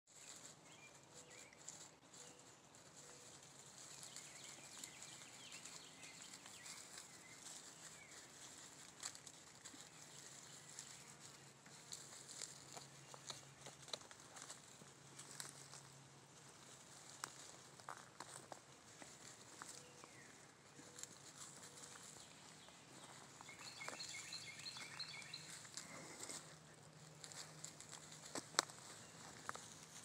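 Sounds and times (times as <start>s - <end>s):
dry leaves rustling and crackling: 0.1s - 30.0s.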